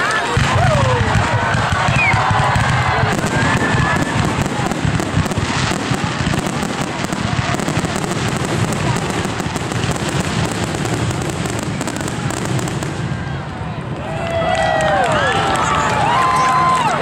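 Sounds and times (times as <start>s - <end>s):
fireworks crackling and bursting: 0.0s - 16.8s.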